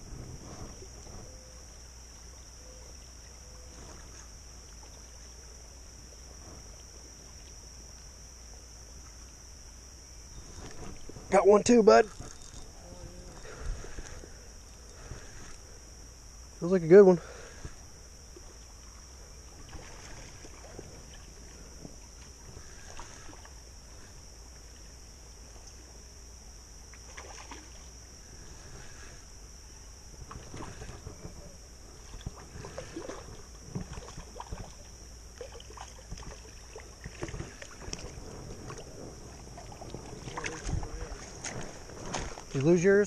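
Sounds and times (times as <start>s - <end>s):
high-pitched insect drone: 0.0s - 43.0s.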